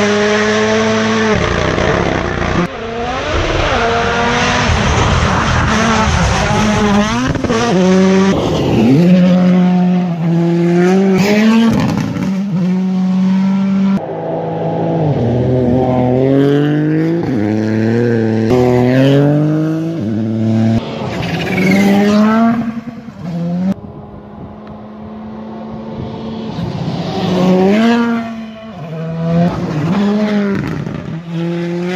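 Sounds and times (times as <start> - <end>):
rally car engine revving hard: 0.0 - 23.8, 26.0 - 31.9.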